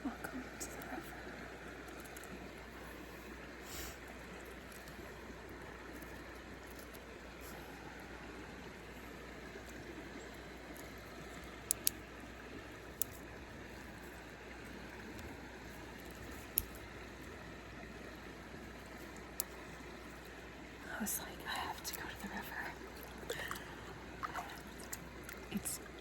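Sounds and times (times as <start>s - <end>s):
river water flowing: 0.0s - 26.0s.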